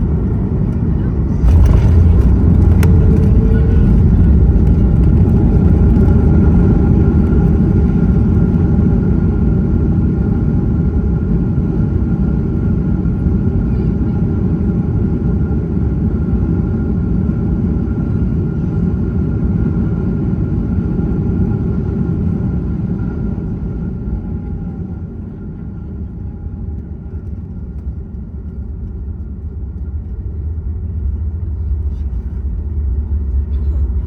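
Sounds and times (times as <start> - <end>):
airplane cabin rumble: 0.0 - 34.0.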